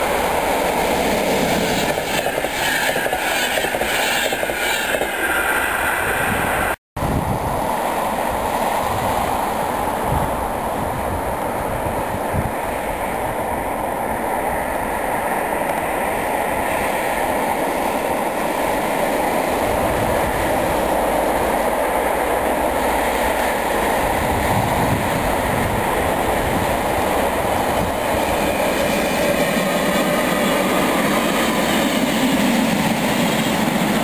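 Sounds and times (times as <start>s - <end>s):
electric freight train rumbling: 0.0s - 34.0s.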